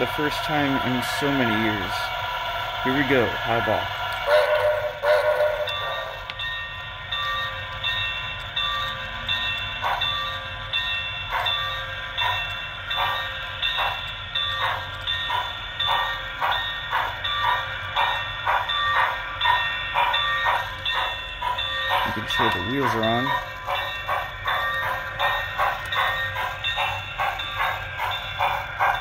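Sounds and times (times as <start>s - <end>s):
model train steam chuffs: 0.0s - 8.0s, 8.8s - 29.0s
locomotive bell ringing: 0.0s - 29.0s.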